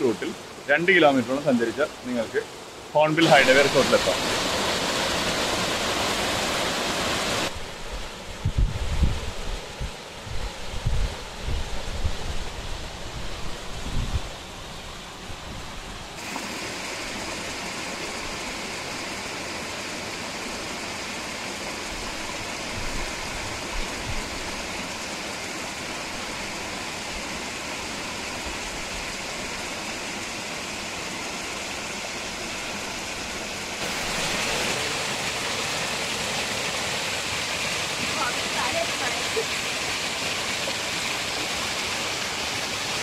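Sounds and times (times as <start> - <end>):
waterfall splashing: 0.0 - 8.3, 16.0 - 43.0.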